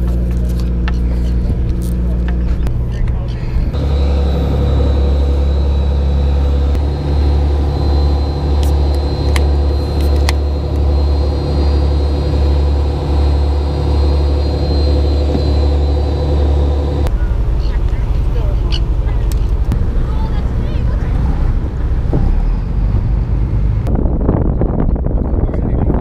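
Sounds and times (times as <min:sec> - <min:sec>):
boat diesel engine running: 0:00.0 - 0:26.0.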